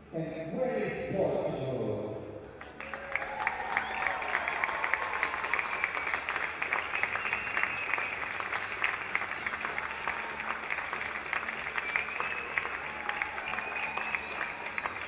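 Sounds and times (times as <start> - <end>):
crowd applauding: 2.6 - 15.0.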